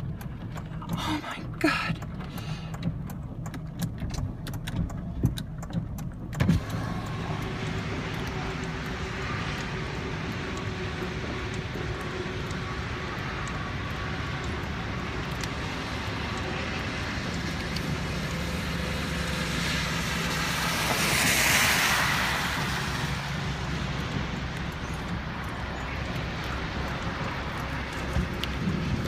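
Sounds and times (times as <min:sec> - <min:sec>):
traffic on a wet highway: 0:00.0 - 0:29.0
wind: 0:00.0 - 0:29.0.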